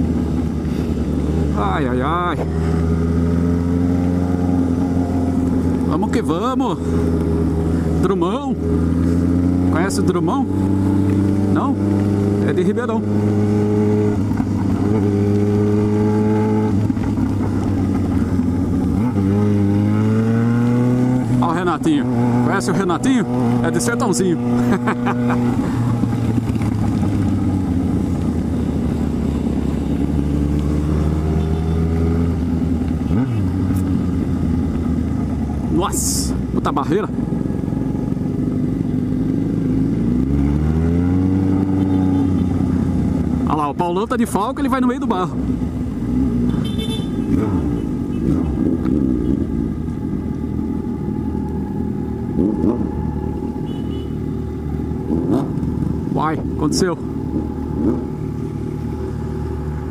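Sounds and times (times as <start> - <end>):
motorcycle engine running steadily: 0.0 - 40.2, 41.5 - 59.9
road and wind noise: 0.0 - 59.9.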